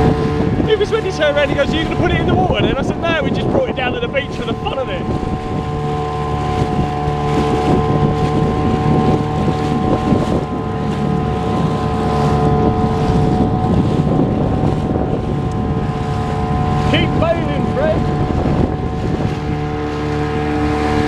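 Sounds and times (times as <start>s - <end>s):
boat motor drone: 0.0s - 21.0s
water noise: 0.0s - 21.0s
wind buffeting microphone: 0.0s - 21.0s.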